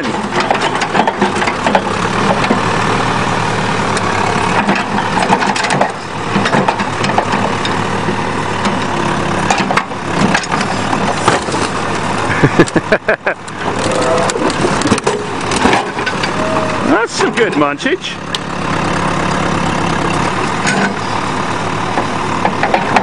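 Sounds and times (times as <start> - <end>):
backhoe engine running: 0.0 - 23.0.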